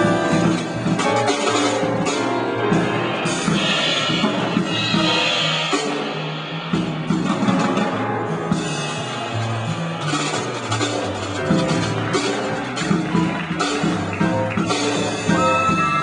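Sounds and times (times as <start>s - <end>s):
drum kit with cymbals: 0.0s - 16.0s
jazz instruments: 0.0s - 16.0s
low bass notes: 0.0s - 16.0s.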